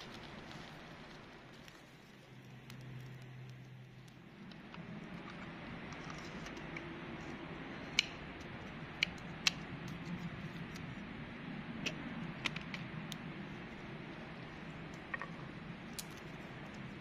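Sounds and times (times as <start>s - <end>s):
fire crackling and popping: 0.0s - 17.0s
low background rush: 0.0s - 17.0s.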